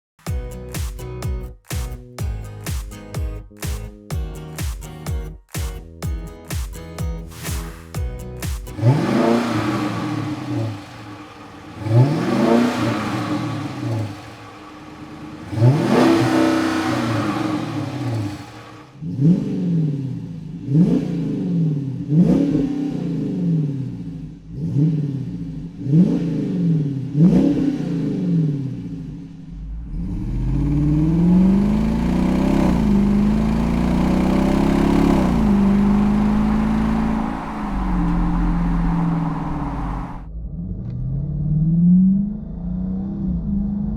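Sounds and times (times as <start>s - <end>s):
car engine revving: 7.4s - 43.9s.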